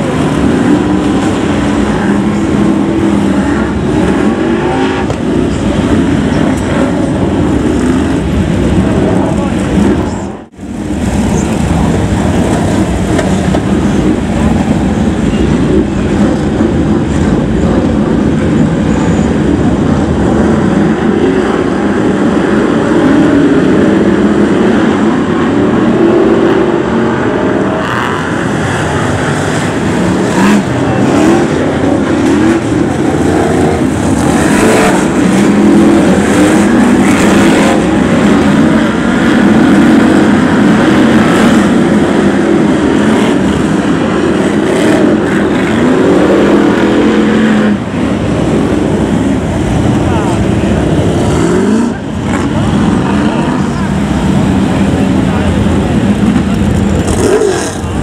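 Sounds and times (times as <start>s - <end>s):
stock car engines racing: 0.0s - 58.0s.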